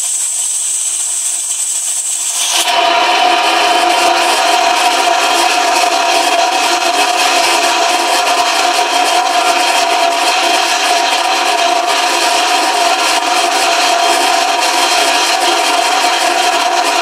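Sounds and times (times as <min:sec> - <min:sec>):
motor whine: 0:00.0 - 0:17.0.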